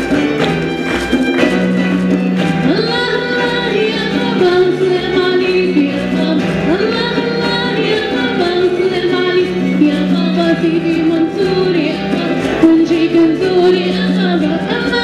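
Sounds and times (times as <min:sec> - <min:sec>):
instrumental accompaniment: 0:00.0 - 0:15.0
woman singing: 0:02.5 - 0:15.0.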